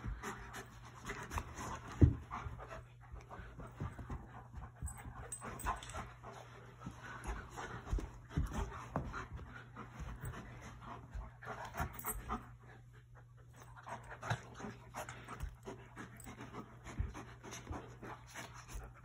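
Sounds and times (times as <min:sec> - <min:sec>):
dog panting: 0:00.0 - 0:19.0
dogs scuffling on carpet: 0:00.0 - 0:19.0.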